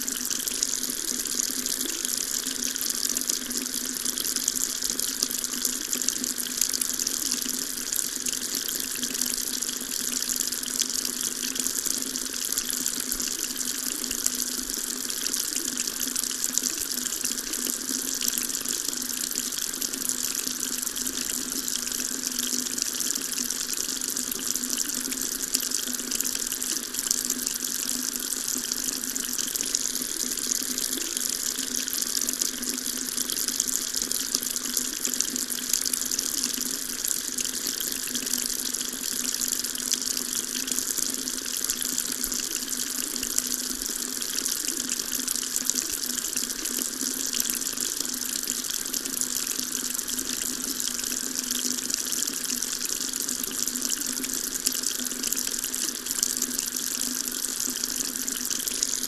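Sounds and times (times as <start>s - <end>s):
water tap running: 0.0s - 59.0s.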